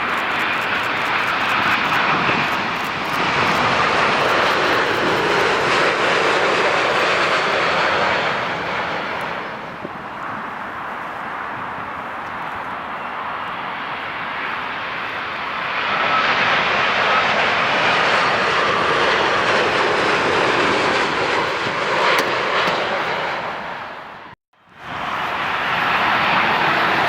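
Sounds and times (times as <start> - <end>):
jet airliner landing roar: 0.0 - 27.0.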